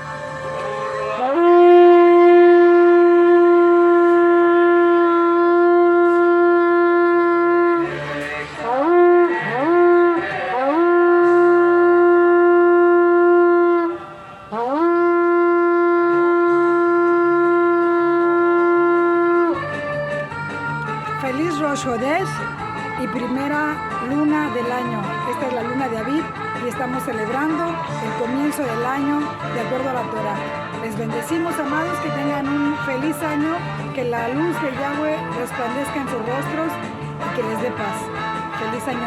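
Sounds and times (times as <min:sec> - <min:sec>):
shofar blasts: 0:00.0 - 0:39.0.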